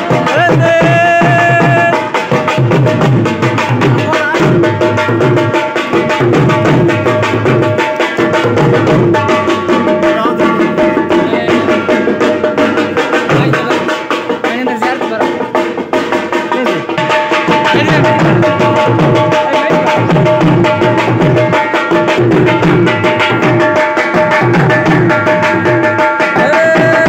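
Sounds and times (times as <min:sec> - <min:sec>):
barrel drum beaten with sticks: 0:00.0 - 0:27.0
held melodic tones: 0:00.0 - 0:27.0.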